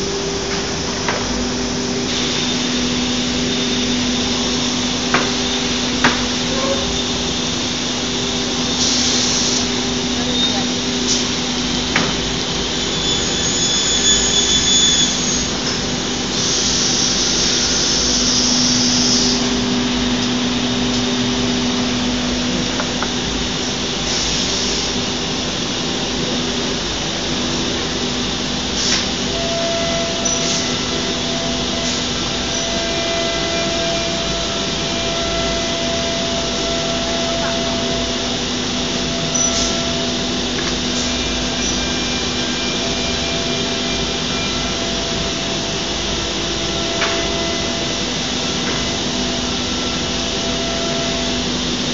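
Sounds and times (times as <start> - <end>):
cnc router drone: 0.0 - 51.9
dust extractor hum: 0.0 - 51.9.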